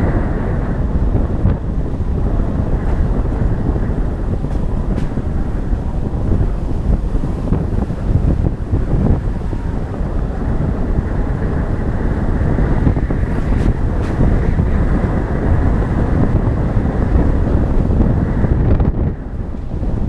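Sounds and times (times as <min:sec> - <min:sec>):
wind buffeting microphone: 0:00.0 - 0:20.0
vehicle driving on gravel: 0:01.9 - 0:19.2.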